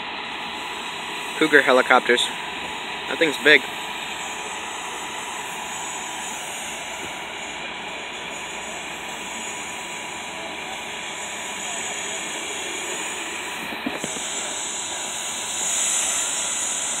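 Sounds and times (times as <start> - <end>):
aircraft turbine whine: 0.0 - 17.0.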